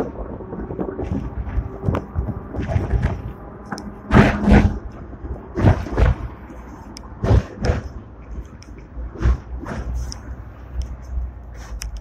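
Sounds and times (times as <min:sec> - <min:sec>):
tram wheels clacking over rail joints: 0:00.0 - 0:10.8
tram running rumble: 0:00.0 - 0:12.0.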